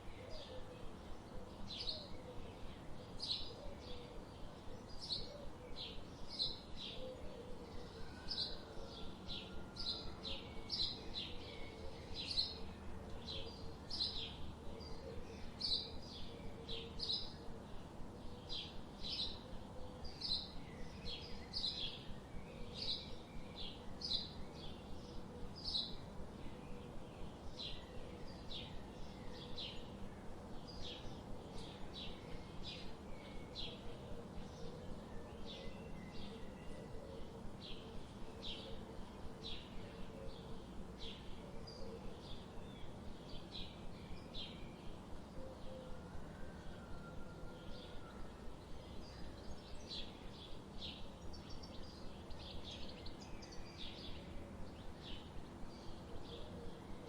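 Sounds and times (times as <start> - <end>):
faint background hum: 0.0 - 57.0.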